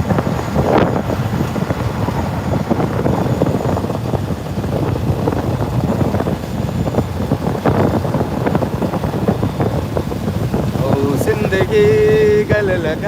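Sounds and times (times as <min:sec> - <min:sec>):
boat engine rumble: 0:00.0 - 0:13.0
wind buffeting microphone: 0:00.0 - 0:13.0.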